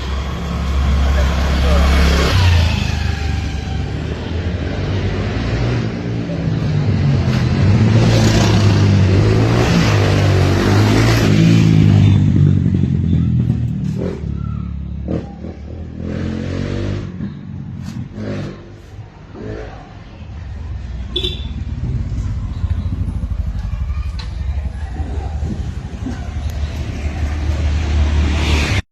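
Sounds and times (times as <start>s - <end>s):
vehicle engine droning: 0.0s - 28.8s.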